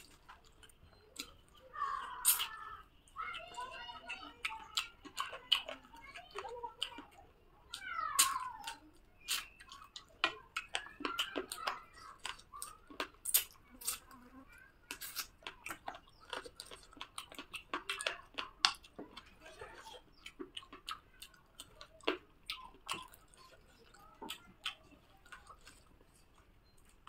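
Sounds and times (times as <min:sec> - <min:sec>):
chewing and wet mouth smacks: 0:00.0 - 0:03.2, 0:04.0 - 0:27.0.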